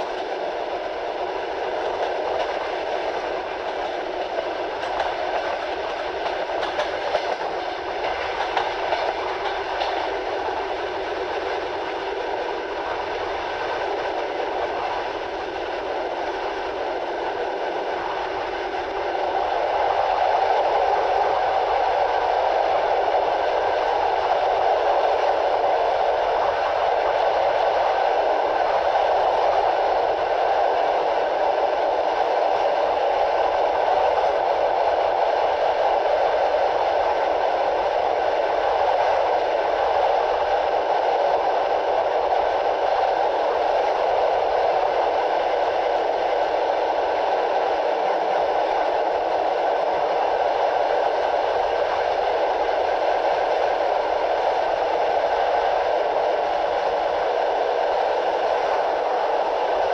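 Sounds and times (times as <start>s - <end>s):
moving train wheels on rail: 0.0s - 59.9s.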